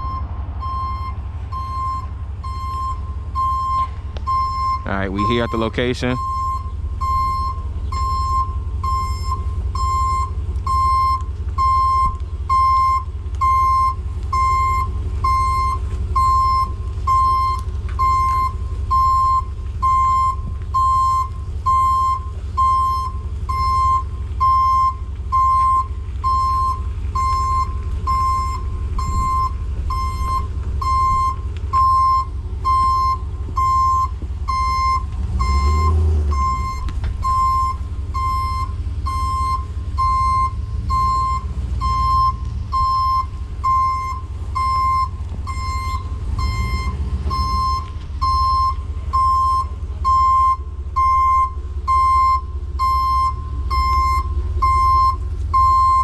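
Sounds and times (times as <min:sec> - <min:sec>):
diesel engine idling: 0:00.0 - 0:56.0
truck reversing alarm beeping: 0:00.0 - 0:56.0.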